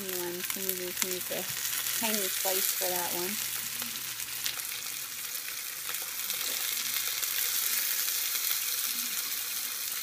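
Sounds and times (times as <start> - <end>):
chicken sizzling in a frying pan: 0.0 - 10.0.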